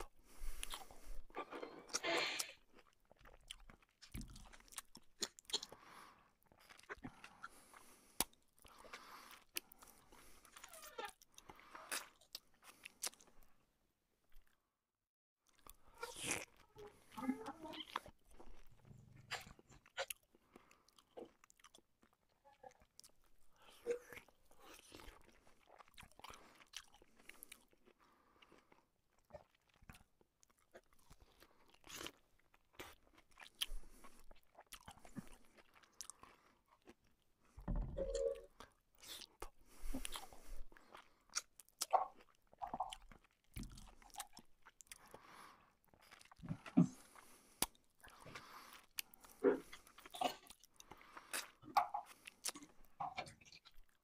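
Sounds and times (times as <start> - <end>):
man chewing and biting food: 0.0 - 13.6, 15.4 - 54.0.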